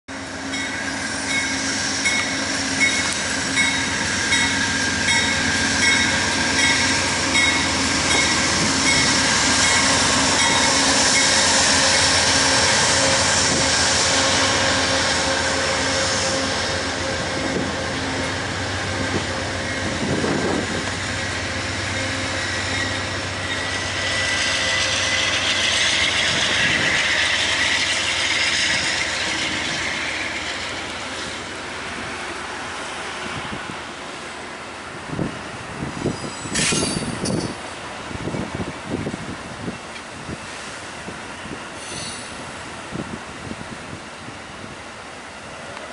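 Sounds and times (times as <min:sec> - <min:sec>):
diesel locomotive passing: 0:00.1 - 0:45.9
train cars rumbling past: 0:00.1 - 0:45.9.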